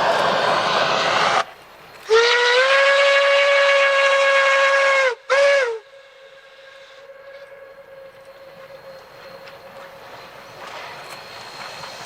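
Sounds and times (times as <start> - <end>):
steam locomotive whistle blasts: 2.1 - 11.9.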